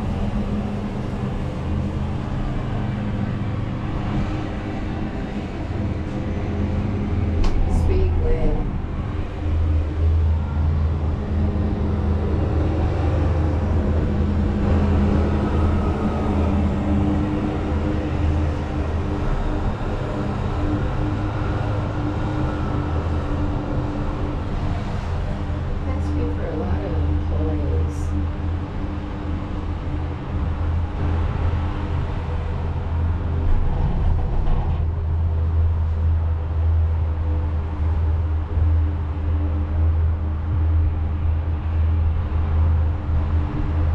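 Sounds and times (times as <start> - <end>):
gondola cabin hum: 0.0 - 43.9.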